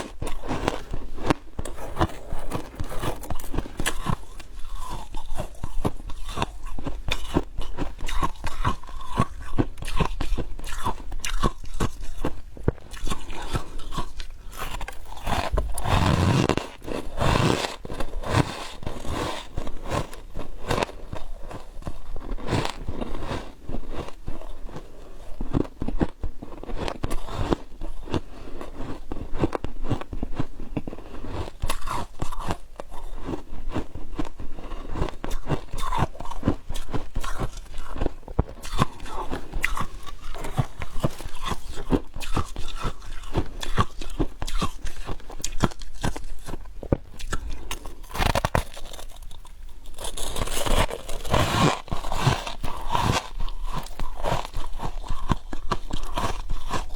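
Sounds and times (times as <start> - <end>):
frost being chewed crunching: 0.0 - 56.9.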